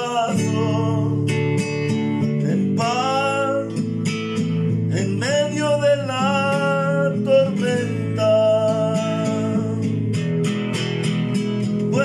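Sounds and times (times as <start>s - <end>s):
man singing: 0.0s - 10.2s, 11.6s - 12.0s
strummed acoustic guitar: 0.0s - 12.0s.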